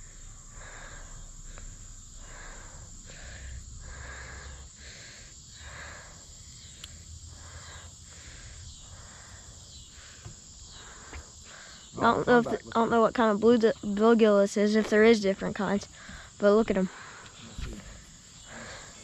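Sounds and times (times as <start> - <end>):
insects chirring: 0.0 - 19.0
low pulsing insect call: 0.0 - 19.0.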